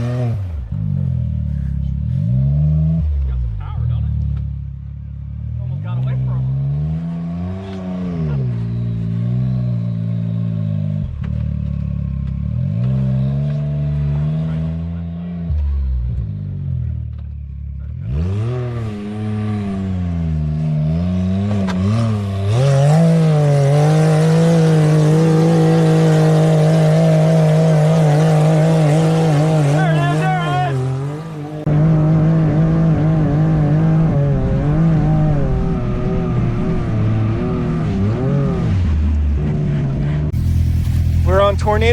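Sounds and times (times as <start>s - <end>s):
utility vehicle engine revving: 0.0s - 41.9s.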